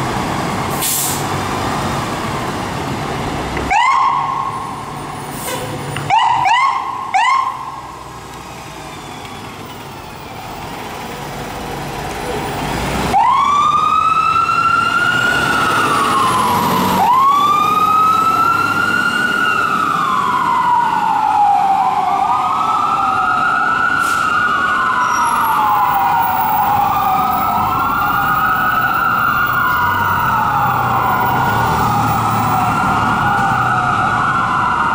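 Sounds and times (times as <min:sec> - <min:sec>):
truck and road noise: 0:00.0 - 0:34.9
fire engine sirens wailing: 0:03.6 - 0:34.9.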